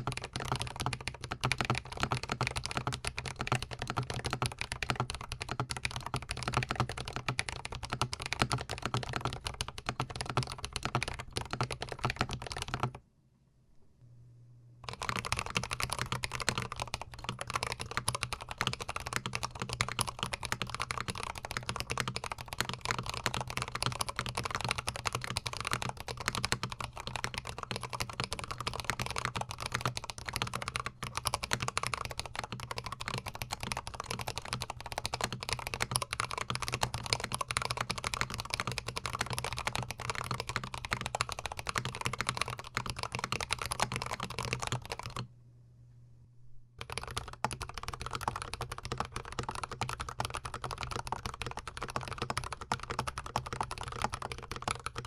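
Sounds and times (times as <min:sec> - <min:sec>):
mechanical keyboard typing: 0:00.0 - 0:13.0, 0:14.8 - 0:45.2, 0:46.8 - 0:55.0.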